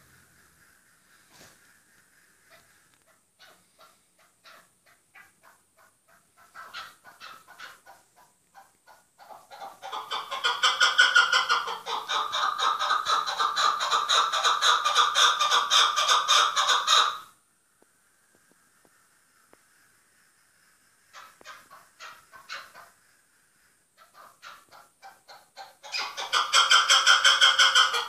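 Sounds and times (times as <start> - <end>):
partridge clucking call: 0.0 - 17.2, 21.1 - 23.0, 24.0 - 28.0.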